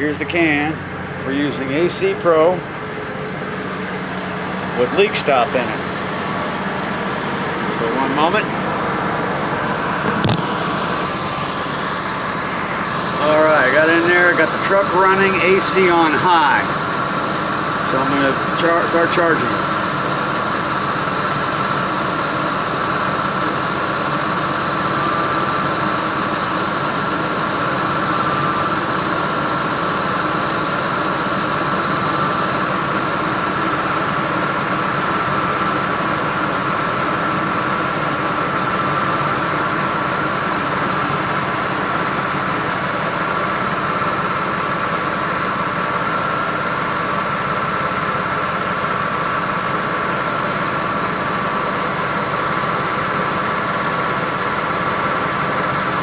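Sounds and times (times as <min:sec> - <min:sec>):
air conditioning whine: 0:00.0 - 0:56.0
car engine idling: 0:00.0 - 0:56.0.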